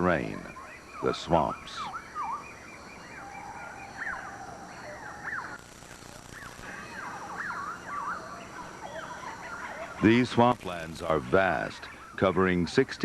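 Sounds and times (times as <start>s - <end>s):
chorus of chirping calls: 0.0s - 13.0s
faint hiss: 0.0s - 13.0s.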